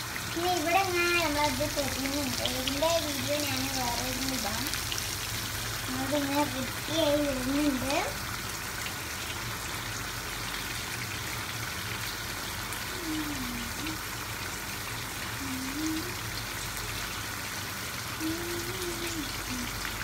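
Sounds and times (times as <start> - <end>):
curry bubbling in a pan: 0.0 - 20.0.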